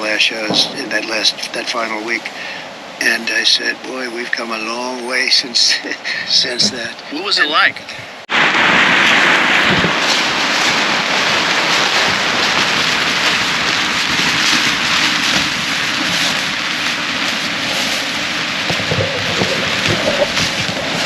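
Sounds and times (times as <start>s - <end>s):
storm wind and rain: 0.0s - 21.0s.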